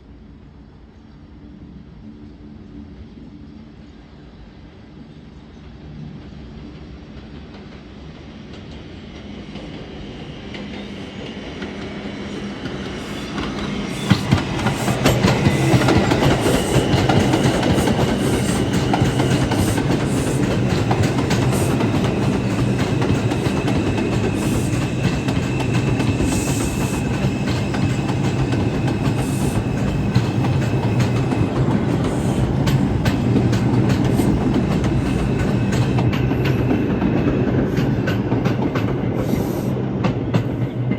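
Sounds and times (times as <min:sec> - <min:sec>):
subway train rumbling on rails: 0:00.0 - 0:40.9.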